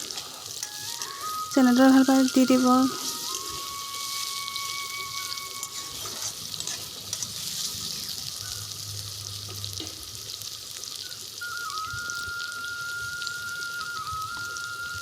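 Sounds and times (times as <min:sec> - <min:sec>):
onions sizzling in butter: 0:00.0 - 0:15.0.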